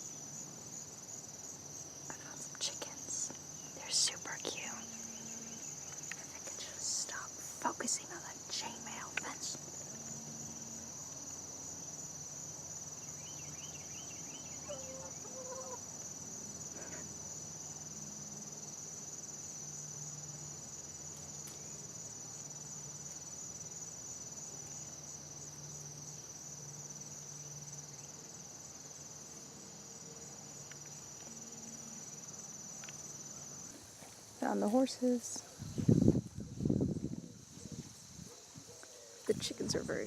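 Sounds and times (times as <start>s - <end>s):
high-pitched insect chorus: 0.0s - 40.0s.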